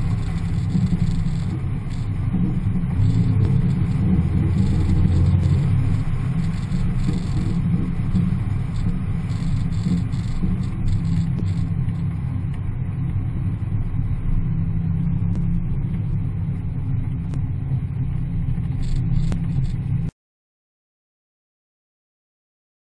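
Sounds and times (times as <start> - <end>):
car engine running: 0.0 - 20.1.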